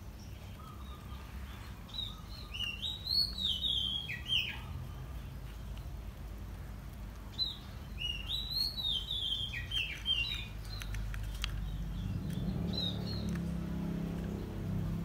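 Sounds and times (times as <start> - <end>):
low steady hum: 0.0 - 15.0
small bird chirping: 0.0 - 15.0.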